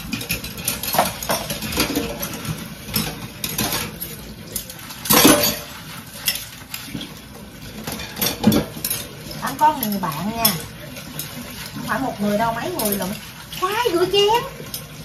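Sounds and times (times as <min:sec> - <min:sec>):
dishes clattering in a sink: 0:00.0 - 0:15.0.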